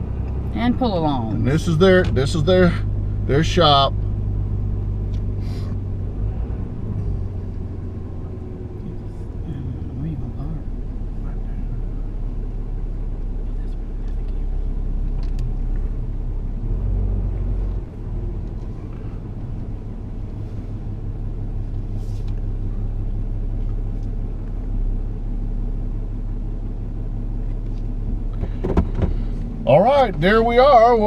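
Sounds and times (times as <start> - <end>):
road rumble: 0.0 - 31.0
vehicle engine: 0.0 - 31.0.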